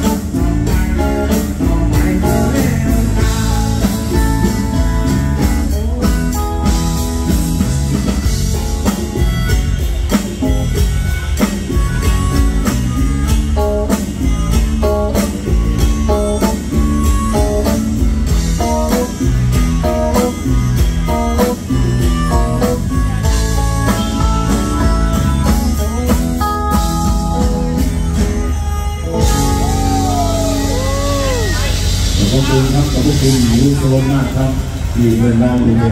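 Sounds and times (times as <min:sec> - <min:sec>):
melodica melody: 0:00.0 - 0:33.9
live rock band playing: 0:00.0 - 0:35.9.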